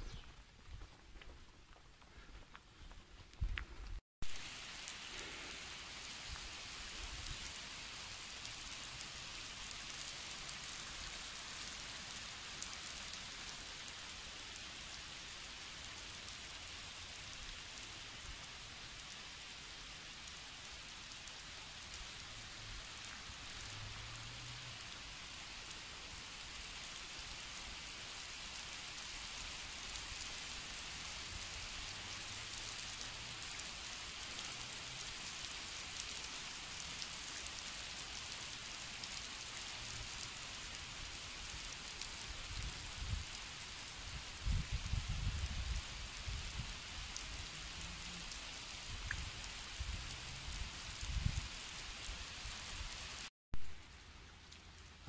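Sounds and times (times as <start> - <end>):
rain falling on asphalt: 4.2 - 55.0.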